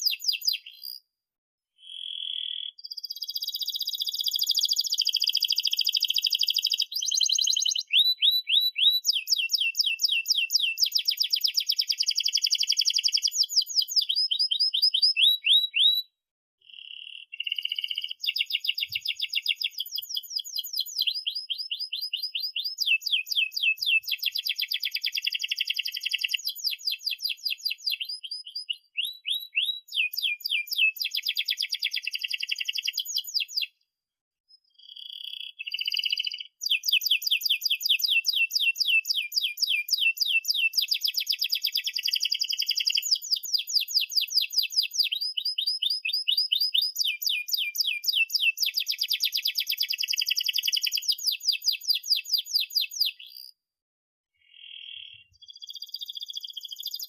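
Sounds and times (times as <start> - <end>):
canary singing rolling trills: 0.0 - 1.0, 1.8 - 16.0, 16.6 - 33.8, 34.7 - 53.6, 54.4 - 57.0.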